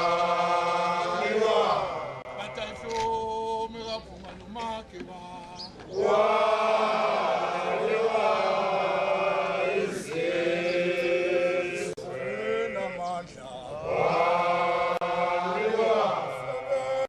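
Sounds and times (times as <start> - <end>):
group of voices chanting: 0.0 - 3.7, 5.9 - 17.0.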